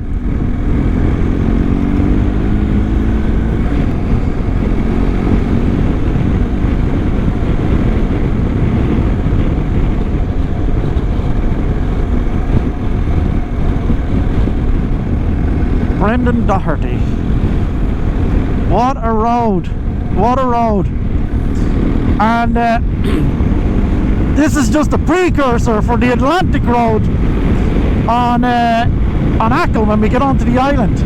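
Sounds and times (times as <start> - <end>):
motorcycle engine accelerating: 0.0 - 31.0
wind rush: 0.0 - 31.0.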